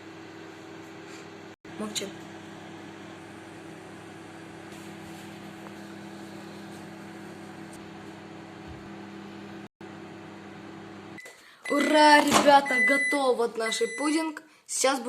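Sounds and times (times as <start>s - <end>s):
microwave oven humming: 0.0s - 14.3s.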